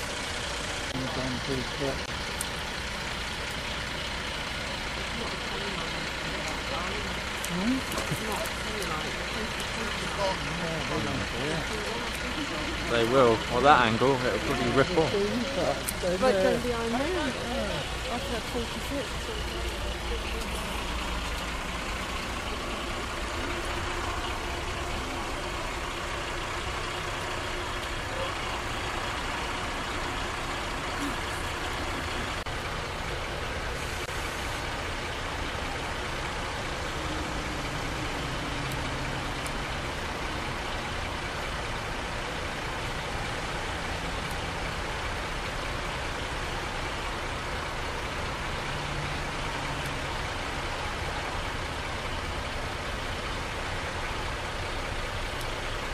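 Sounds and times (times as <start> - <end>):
large vehicle engine idling: 0.0 - 55.9.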